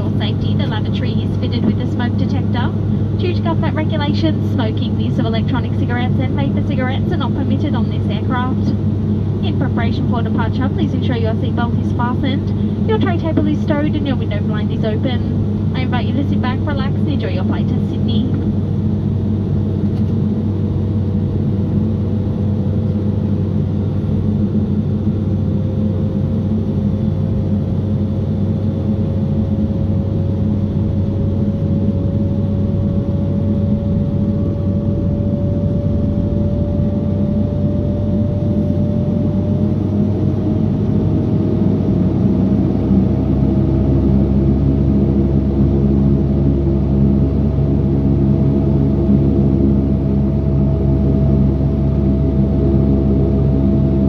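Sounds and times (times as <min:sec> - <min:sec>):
deep loud rumble: 0:00.0 - 0:54.0
turboprop engine spooling up: 0:00.0 - 0:54.0.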